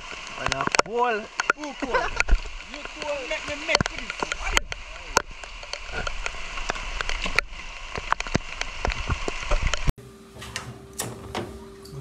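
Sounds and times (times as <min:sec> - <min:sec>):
heavy rain falling: 0:00.0 - 0:09.9
sharp ticks and clicks: 0:00.0 - 0:09.9.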